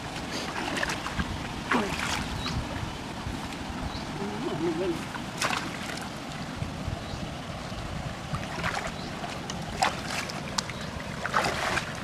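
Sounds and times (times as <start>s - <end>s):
person wading through water: 0.0s - 3.8s, 4.5s - 6.6s, 8.2s - 12.0s.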